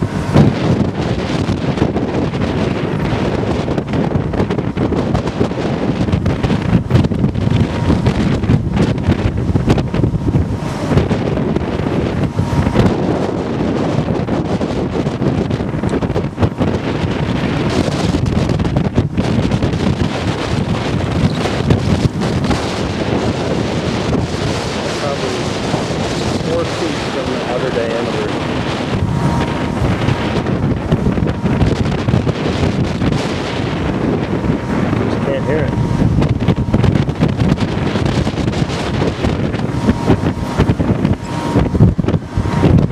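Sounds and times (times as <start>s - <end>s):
gusty wind buffeting microphone: 0.0s - 42.9s.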